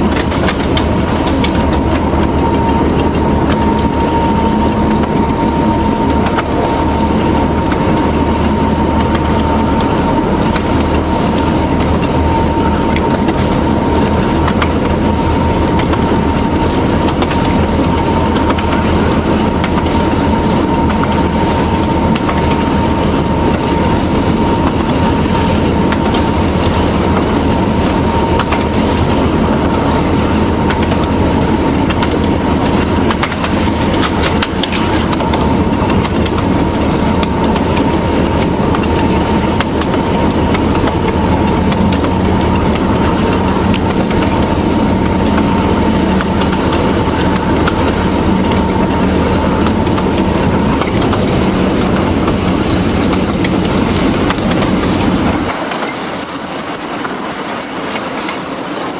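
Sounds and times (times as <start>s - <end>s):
constant high whine: 0.0s - 58.9s
diesel locomotive engine running: 0.0s - 58.9s
wheels clicking over rail joints: 0.0s - 58.9s.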